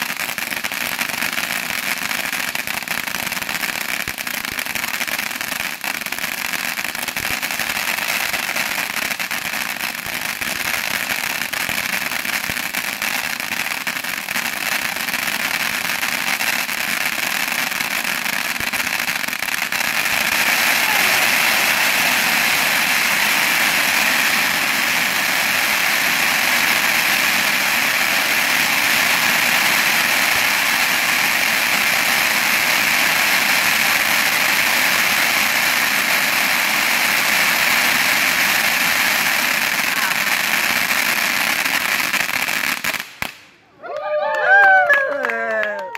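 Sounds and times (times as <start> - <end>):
fireworks fountain hissing: 0.0 - 43.6.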